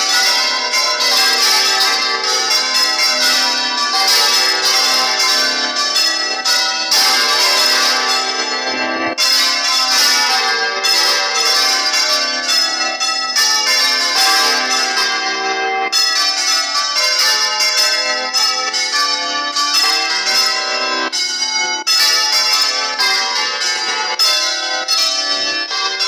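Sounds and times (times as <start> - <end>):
church bells pealing: 0.0 - 26.0.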